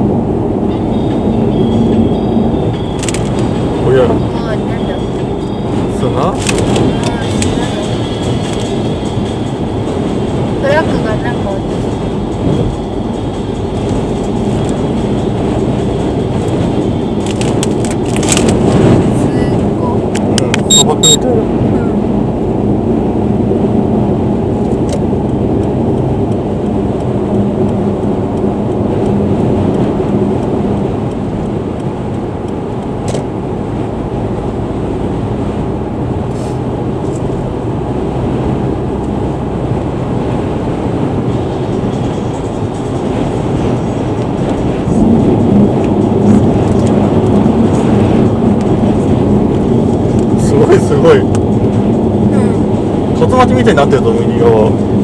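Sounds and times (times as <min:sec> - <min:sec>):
car road and engine noise: 0:00.0 - 0:55.0
gusty wind buffeting car: 0:00.0 - 0:55.0.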